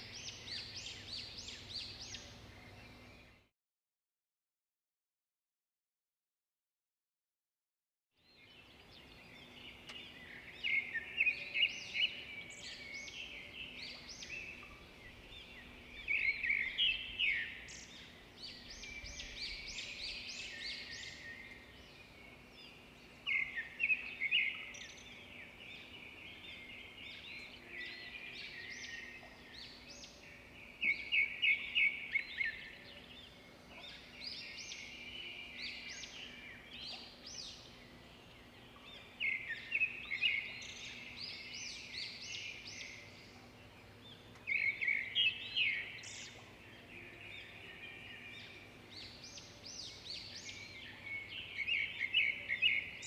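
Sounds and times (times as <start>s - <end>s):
birds chirping and trilling: 0.0s - 3.5s, 8.2s - 53.0s
faint steady hum: 8.5s - 53.0s.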